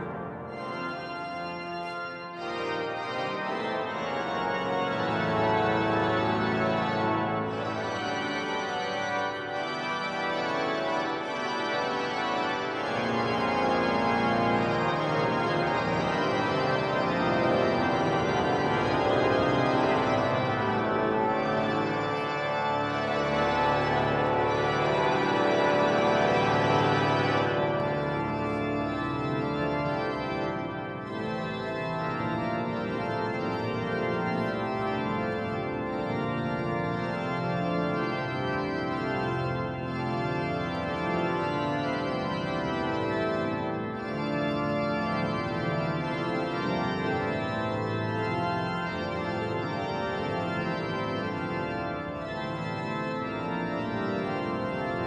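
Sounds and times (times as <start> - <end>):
pipe organ playing chords: 0.0 - 55.0.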